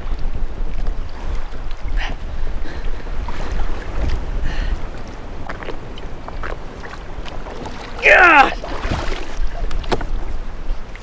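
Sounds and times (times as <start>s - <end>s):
choppy river water: 0.0s - 11.0s
wind buffeting the microphone: 0.0s - 11.0s.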